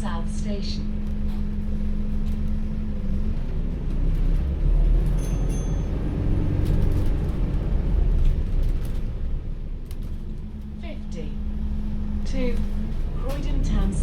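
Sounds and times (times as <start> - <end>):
bus drivetrain hum: 0.0 - 14.0
road rumble: 0.0 - 14.0.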